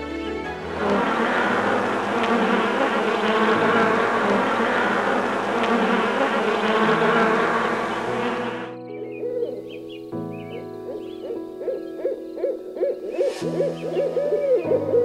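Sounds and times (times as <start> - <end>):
flying insects buzzing: 0.6 - 15.0.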